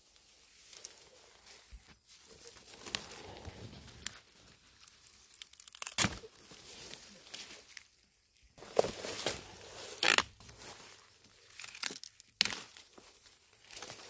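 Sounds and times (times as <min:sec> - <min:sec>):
dry plant material crackling: 0:00.0 - 0:14.0.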